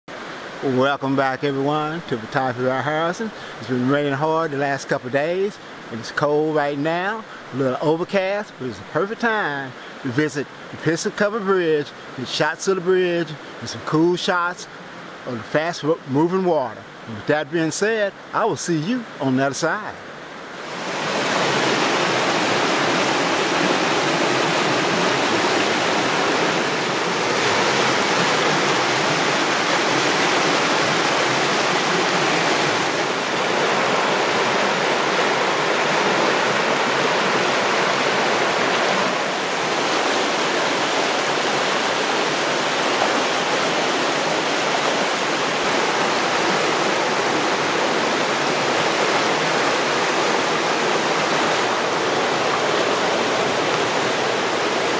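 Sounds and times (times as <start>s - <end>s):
flooded creek rushing: 0.1s - 54.9s.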